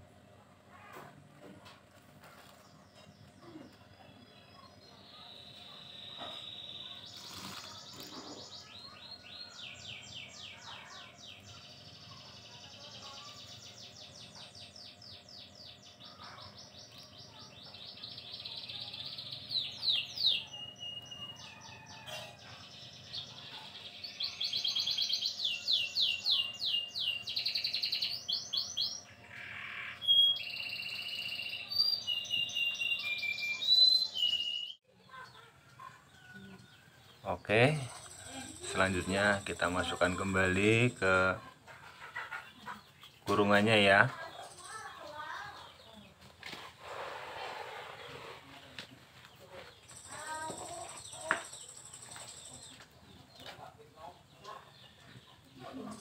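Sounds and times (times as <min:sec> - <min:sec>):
songbird trilling and chirping: 0:02.6 - 0:41.4, 0:42.1 - 0:46.2, 0:48.1 - 0:56.0.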